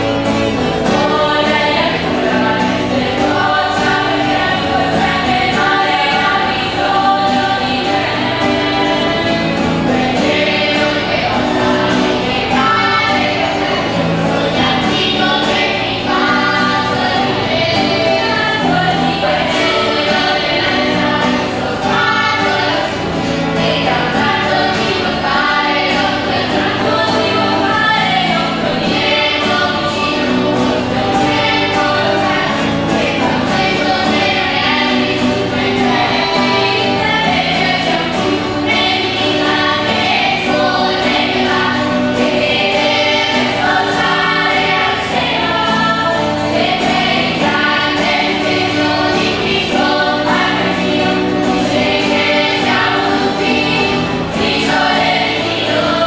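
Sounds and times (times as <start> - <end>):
female choir singing in harmony: 0.0 - 56.0.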